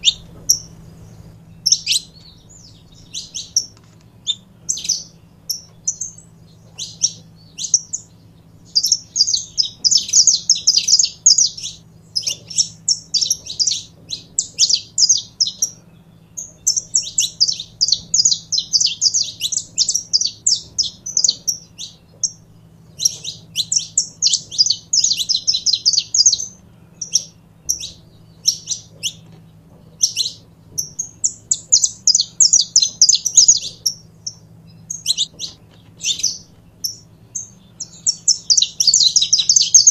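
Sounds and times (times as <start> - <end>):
finch singing high chirps: 0.0 - 39.9.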